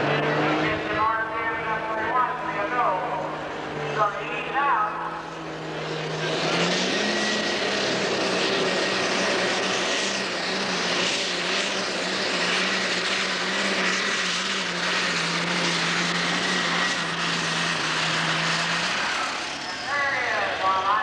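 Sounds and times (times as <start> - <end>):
tractor engine under full load: 0.0 - 21.0.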